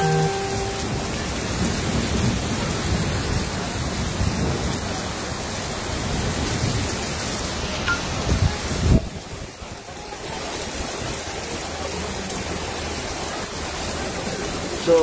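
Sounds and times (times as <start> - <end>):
heavy rain on flooded street: 0.0 - 15.0.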